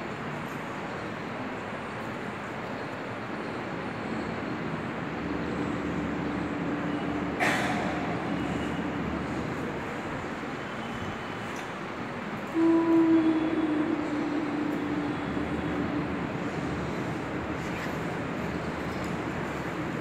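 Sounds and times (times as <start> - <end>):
rumble and hiss: 0.0 - 20.0
faint steady hum: 2.8 - 20.0.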